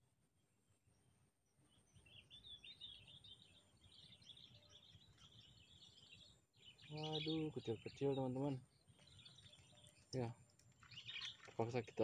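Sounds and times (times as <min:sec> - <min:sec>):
small birds chirping: 0:00.4 - 0:12.0.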